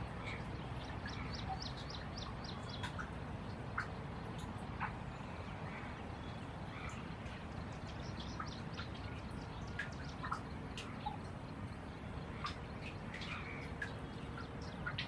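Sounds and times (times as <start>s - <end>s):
low background noise: 0.0s - 15.0s
birds chirping and clicking: 0.2s - 5.0s, 5.8s - 15.0s.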